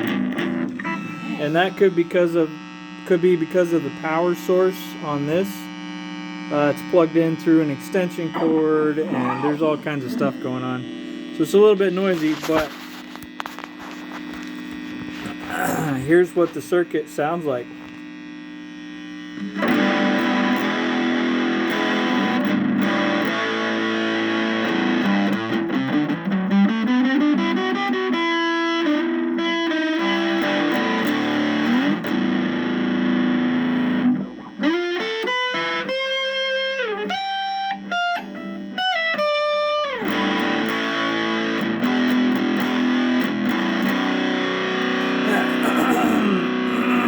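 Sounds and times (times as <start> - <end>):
distorted electric guitar: 0.0 - 47.0.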